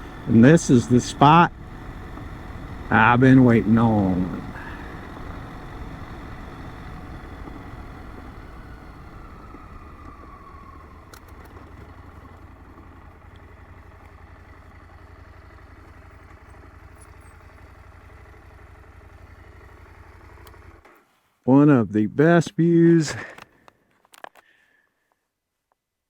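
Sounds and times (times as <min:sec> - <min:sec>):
motorcycle engine slowing down: 0:00.0 - 0:21.0.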